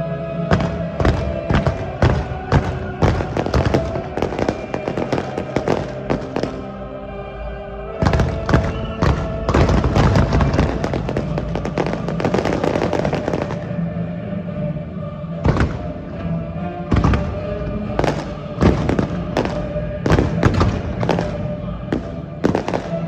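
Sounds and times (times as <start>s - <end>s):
music playing: 0.0s - 23.0s
fireworks bangs and crackles: 0.4s - 6.8s, 8.0s - 13.8s, 15.4s - 16.1s, 16.9s - 23.0s.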